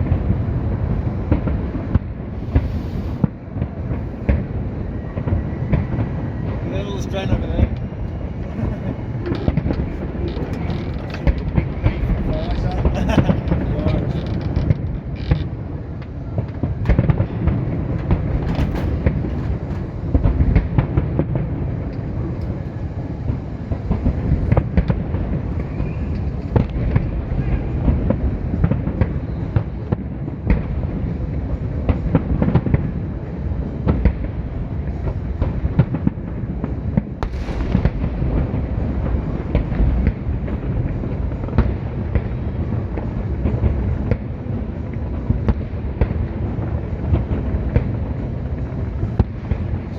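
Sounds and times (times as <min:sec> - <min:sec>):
fireworks bangs and booms: 0:00.0 - 0:49.9
fireworks sharp cracks: 0:00.0 - 0:49.9.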